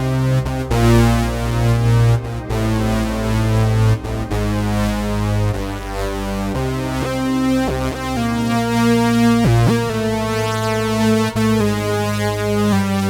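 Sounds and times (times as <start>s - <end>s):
bright synth notes and chords: 0.0s - 13.0s.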